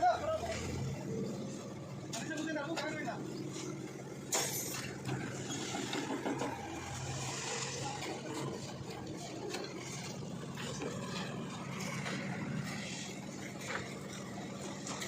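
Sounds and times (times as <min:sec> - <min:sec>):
machinery engine droning: 0:00.0 - 0:15.0.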